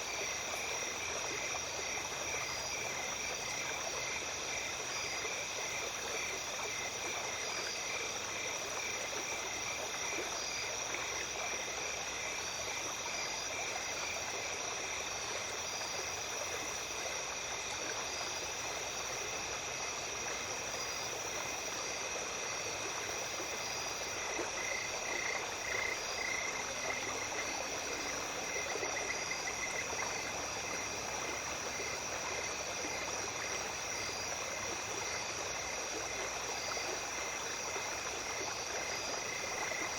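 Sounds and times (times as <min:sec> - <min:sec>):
insects trilling: 0:00.0 - 0:39.9
pulsing insect call: 0:00.0 - 0:39.9
small stream running: 0:00.0 - 0:39.9.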